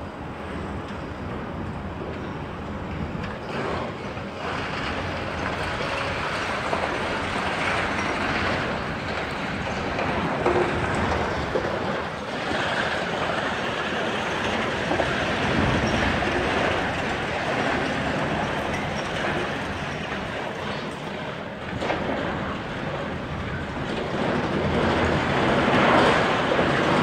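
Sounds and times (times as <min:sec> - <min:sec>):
heavy machine noise: 0:00.1 - 0:27.0.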